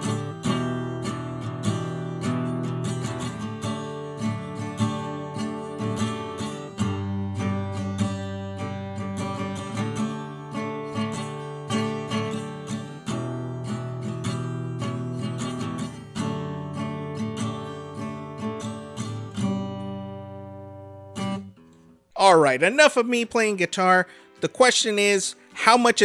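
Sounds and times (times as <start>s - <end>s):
guitar chords and notes: 0.0s - 26.0s.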